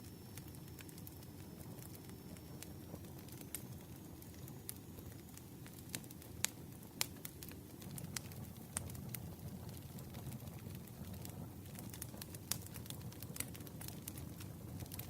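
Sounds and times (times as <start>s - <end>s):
fire crackles and pops: 0.0s - 15.0s
campfire flames rumbling: 0.1s - 15.0s.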